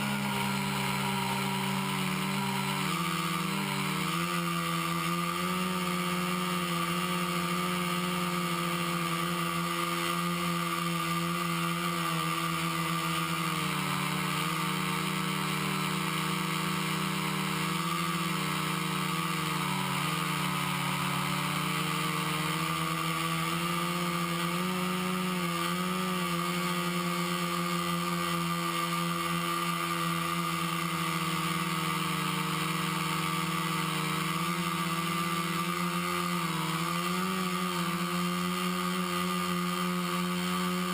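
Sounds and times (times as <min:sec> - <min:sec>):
quadcopter motors humming: 0:00.0 - 0:40.9.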